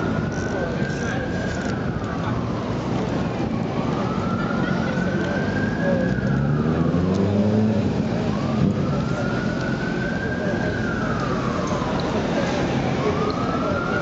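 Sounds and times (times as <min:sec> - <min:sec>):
city traffic noise: 0:00.0 - 0:14.0
emergency siren wailing: 0:00.0 - 0:14.0.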